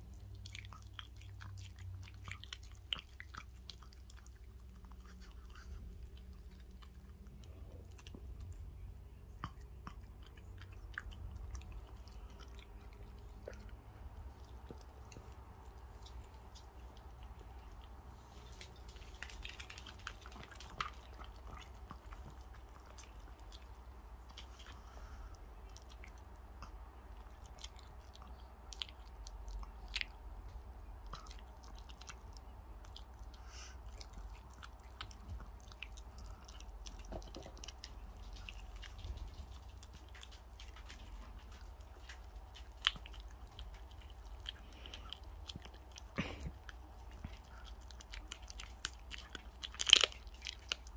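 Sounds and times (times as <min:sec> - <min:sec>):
dog chewing meat and bone: 0:00.0 - 0:50.9.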